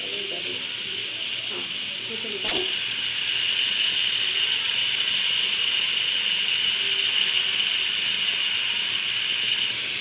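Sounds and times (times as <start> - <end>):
vegetables sizzling in frying pan: 0.0 - 10.0.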